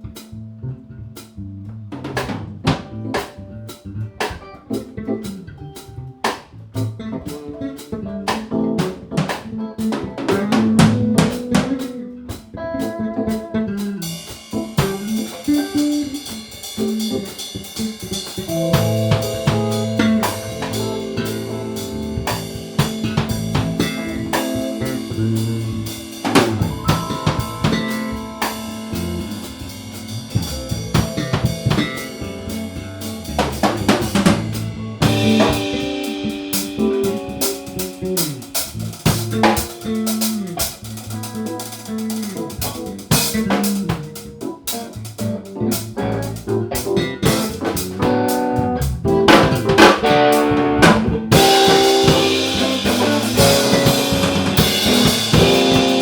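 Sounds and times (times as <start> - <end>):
instrumental band jam: 0.0 - 56.0.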